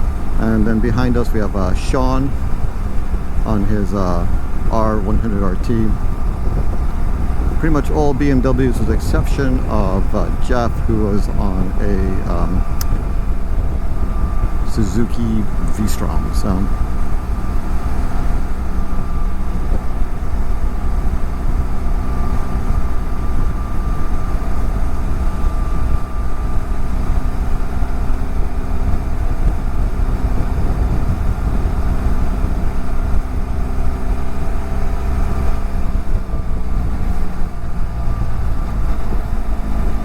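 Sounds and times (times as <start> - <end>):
motorcycle engine cruising: 0.0 - 40.0
wind rush: 0.0 - 40.0.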